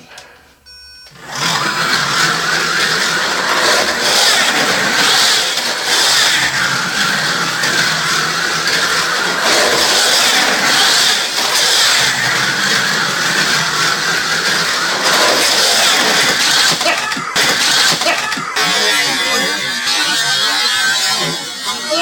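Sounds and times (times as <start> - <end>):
slot car motors whining: 0.0 - 22.0
slot car tyre rattle: 1.1 - 22.0.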